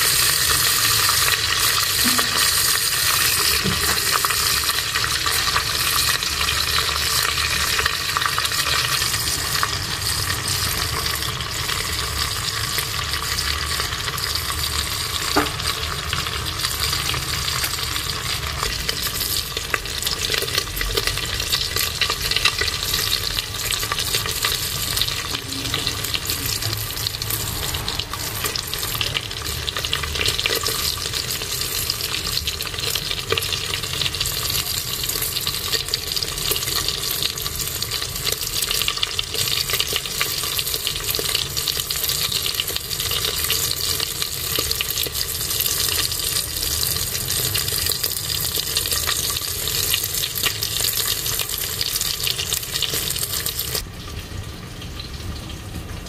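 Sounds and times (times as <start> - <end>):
pork skin sizzling in fat: 0.0 - 56.0.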